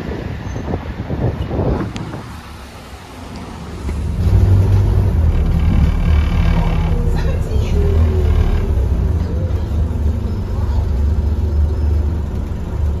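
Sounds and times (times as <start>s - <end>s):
bus diesel engine droning: 2.4s - 13.0s.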